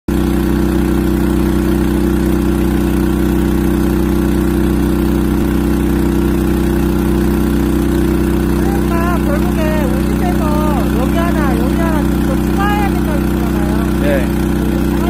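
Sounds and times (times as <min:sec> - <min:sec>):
water pump engine running: 0:00.1 - 0:15.0.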